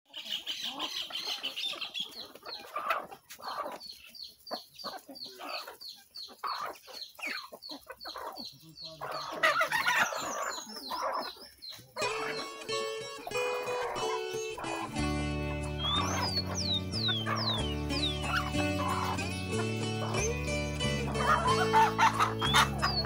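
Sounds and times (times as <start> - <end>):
chickens clucking: 0.1 - 23.0.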